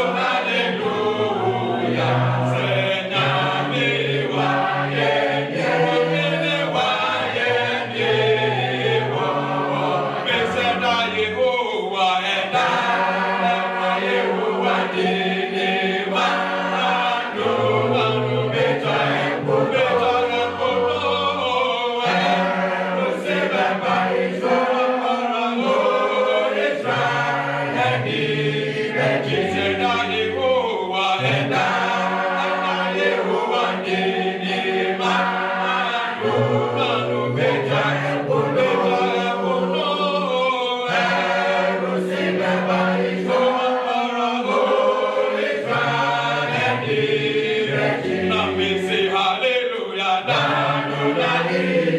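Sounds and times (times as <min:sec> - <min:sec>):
choir singing a cappella: 0:00.0 - 0:51.9.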